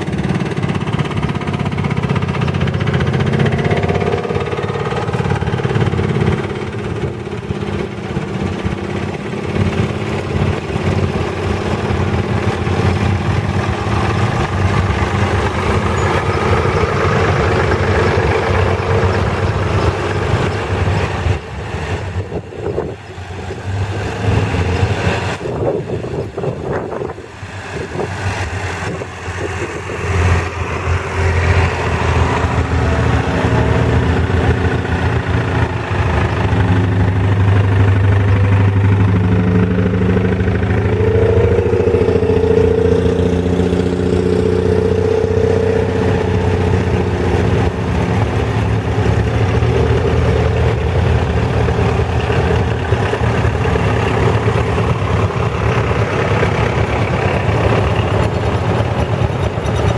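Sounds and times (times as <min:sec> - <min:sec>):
tractor engines running: 0:00.0 - 0:59.9.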